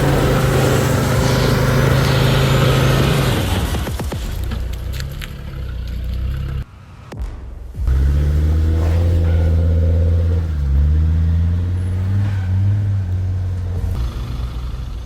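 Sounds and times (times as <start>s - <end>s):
off-road vehicle engine pulling: 0.0s - 6.7s, 7.8s - 15.0s.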